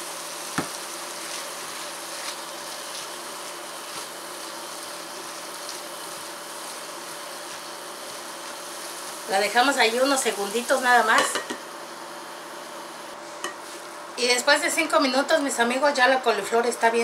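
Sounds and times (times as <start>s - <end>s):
vegetables sizzling in a frying pan: 0.0s - 15.6s.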